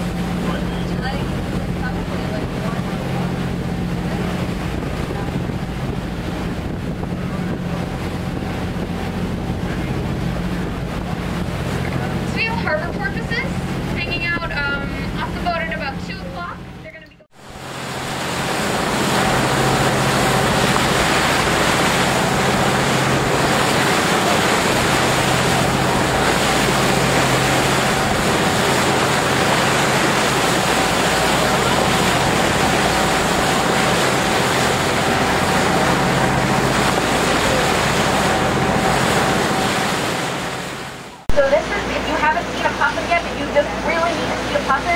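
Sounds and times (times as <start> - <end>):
boat engines droning: 0.0 - 44.9
rush of wind and water: 0.0 - 44.9.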